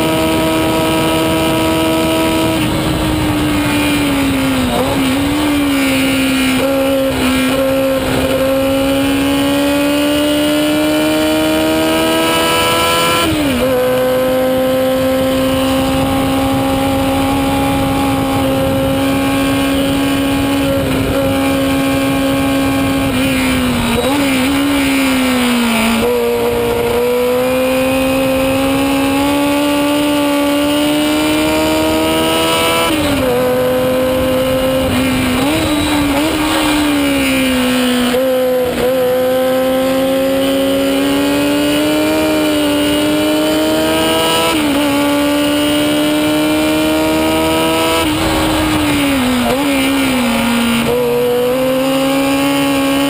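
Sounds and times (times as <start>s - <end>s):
wind rush: 0.0s - 11.0s, 12.8s - 39.6s, 40.3s - 52.0s
racing car engine at high revs: 0.0s - 53.0s.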